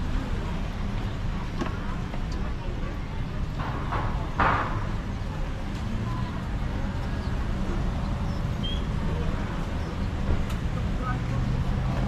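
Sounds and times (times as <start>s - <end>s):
faint background voices: 0.0s - 12.0s.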